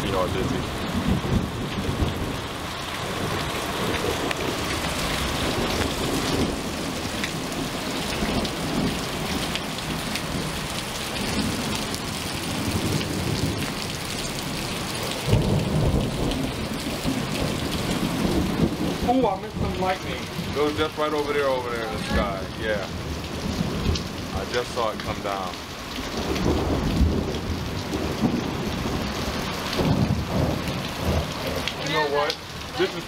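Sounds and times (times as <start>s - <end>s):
heavy rain pouring: 0.0s - 33.0s
thunder rumbling: 0.0s - 33.0s.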